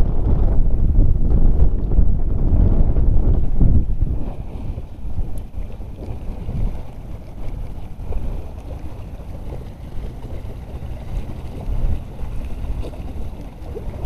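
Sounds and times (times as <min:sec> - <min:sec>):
choppy sea water: 0:00.0 - 0:14.0
wind buffeting microphone: 0:00.0 - 0:14.0.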